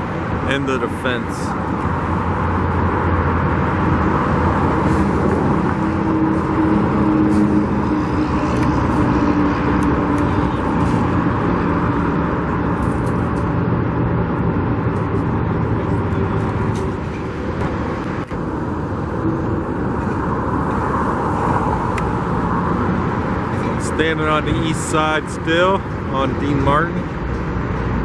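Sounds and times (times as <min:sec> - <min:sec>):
cars passing on a busy road: 0:00.0 - 0:28.0.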